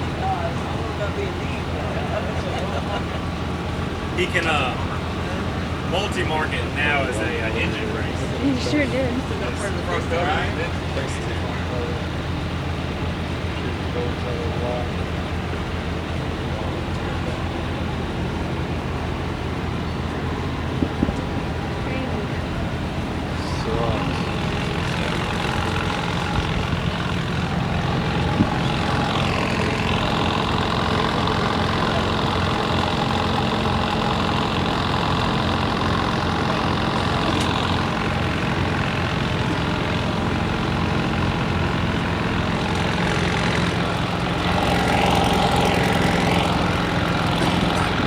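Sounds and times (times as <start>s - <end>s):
heavy engine idling: 0.0s - 48.0s.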